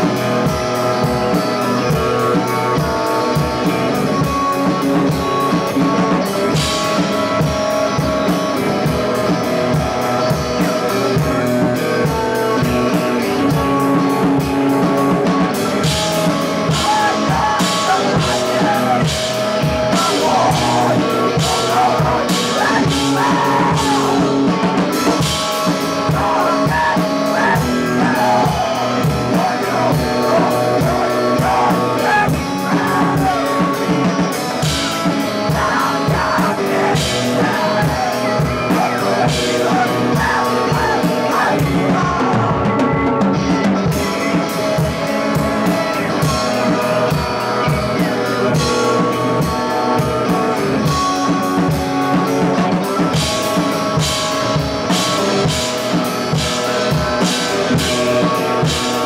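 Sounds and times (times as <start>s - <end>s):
electric guitar: 0.0s - 59.0s
rapid drum kit hits: 0.0s - 59.0s
screamo band playing loud: 0.0s - 59.0s.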